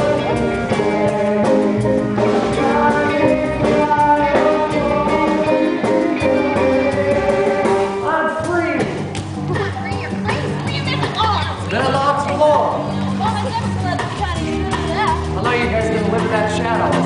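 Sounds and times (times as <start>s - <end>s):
band music with guitar: 0.0s - 17.0s.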